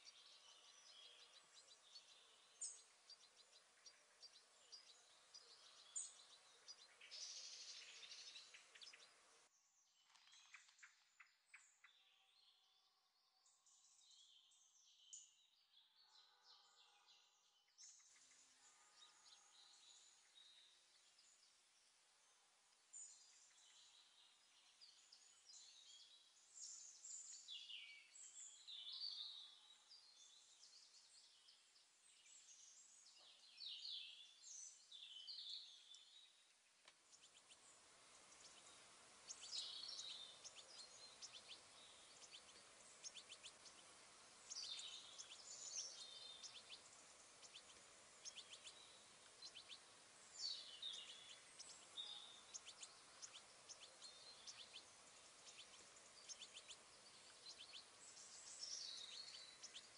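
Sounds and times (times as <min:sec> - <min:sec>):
faint steady hiss: 0:00.0 - 0:16.0, 0:17.0 - 0:59.9
small birds chirping: 0:00.0 - 0:59.9.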